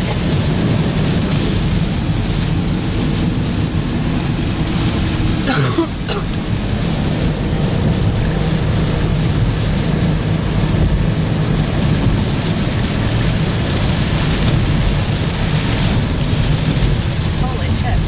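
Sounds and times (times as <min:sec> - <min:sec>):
deep rumble: 0:00.0 - 0:18.0
heavy rain and wind on car: 0:00.0 - 0:18.0.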